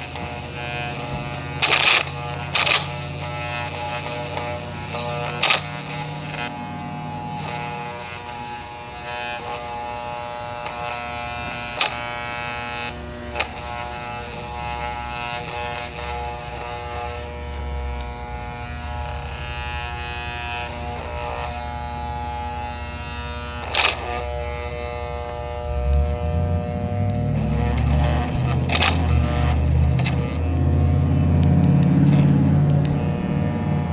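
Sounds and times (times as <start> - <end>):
blender motor whining: 0.0 - 33.9.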